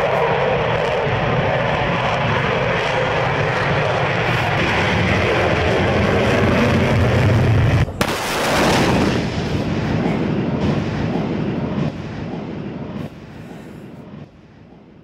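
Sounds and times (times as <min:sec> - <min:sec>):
jet fighter roar: 0:00.0 - 0:15.0.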